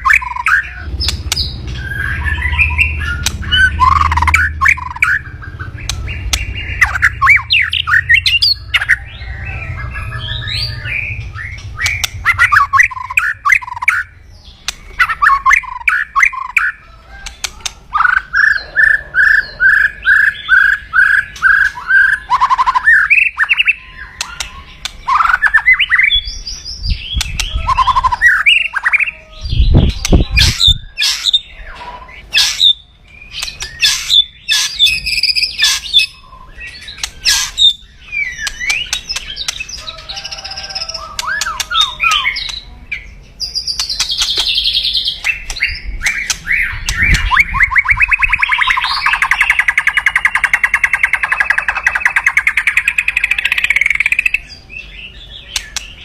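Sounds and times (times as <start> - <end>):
bird chattering and whistling: 0.0 - 56.0.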